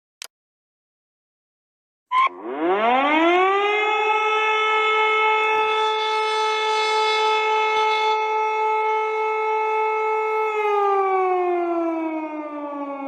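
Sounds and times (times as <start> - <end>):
warning siren wailing: 2.1 - 13.0.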